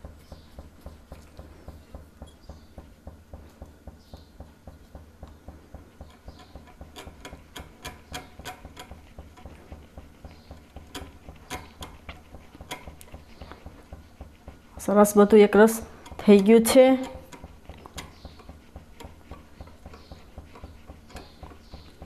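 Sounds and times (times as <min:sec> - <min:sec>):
whisk swishing batter: 0:00.0 - 0:22.0
whisk wires clicking on glass: 0:00.0 - 0:22.0.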